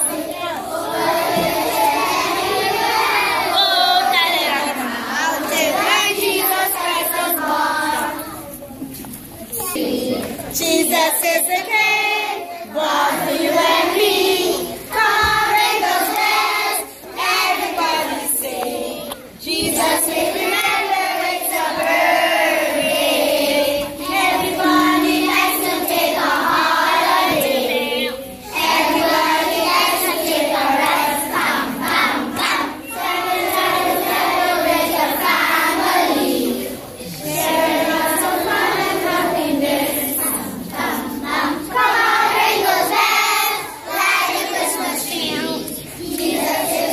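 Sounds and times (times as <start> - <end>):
children's choir singing a carol: 0.0 - 46.9.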